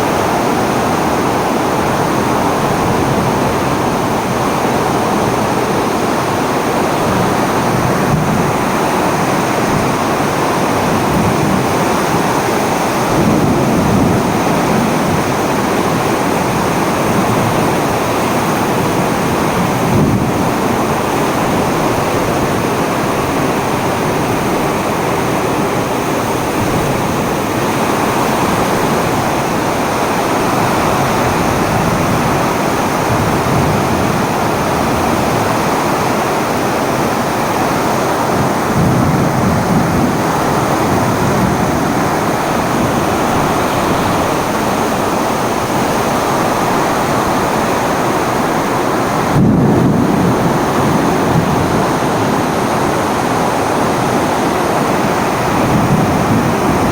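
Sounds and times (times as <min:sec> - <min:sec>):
storm rushing noise: 0:00.0 - 0:56.9.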